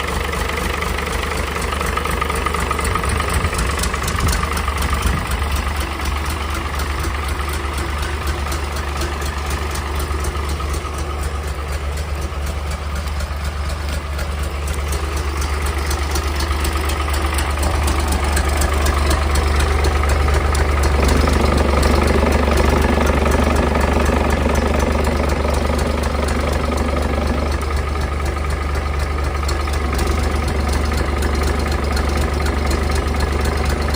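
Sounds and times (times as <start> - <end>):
marine diesel engine droning: 0.0 - 33.9.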